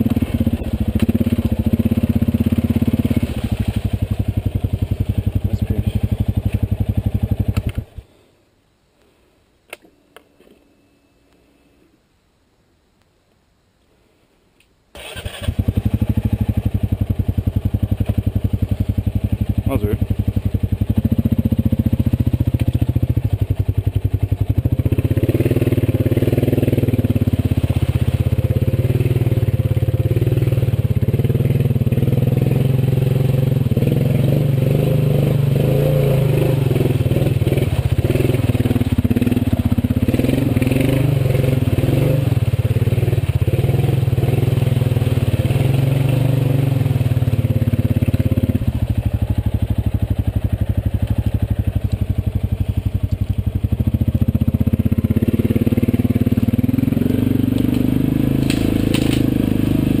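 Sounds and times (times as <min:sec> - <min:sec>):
atv engine running under load: 0:00.0 - 0:08.0, 0:15.0 - 1:00.0
driving through mud and water: 0:00.0 - 0:08.0, 0:14.9 - 1:00.0.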